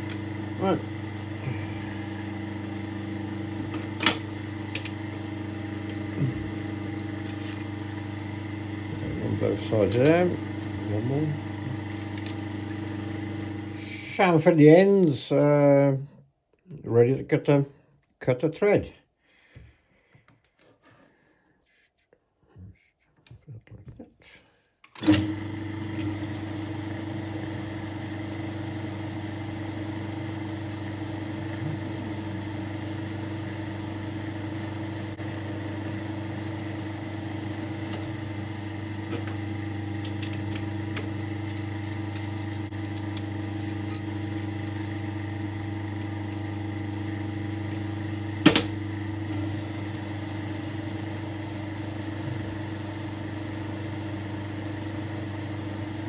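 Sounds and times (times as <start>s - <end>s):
lathe motor humming: 0.0s - 14.0s, 25.0s - 56.0s.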